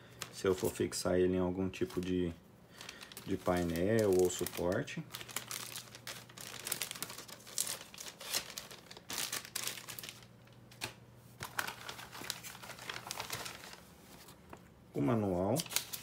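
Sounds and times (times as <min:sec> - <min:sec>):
plastic bag crinkling: 0:01.7 - 0:14.6, 0:15.3 - 0:16.0.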